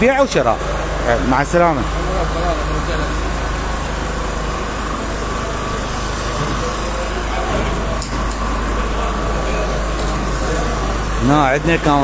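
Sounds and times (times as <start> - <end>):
road traffic rumble: 0.0 - 12.0
faint voices: 0.4 - 12.0.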